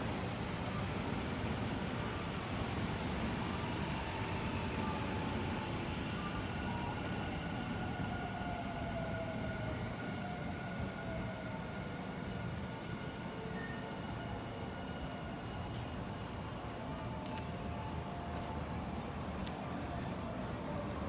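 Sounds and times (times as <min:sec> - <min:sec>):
street vehicle noise: 0:00.0 - 0:21.0.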